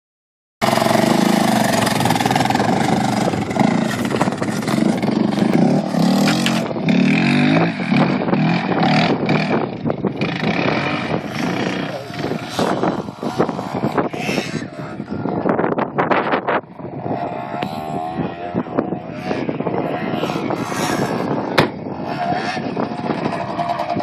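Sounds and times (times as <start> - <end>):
atv engine revving: 0.6 - 24.0.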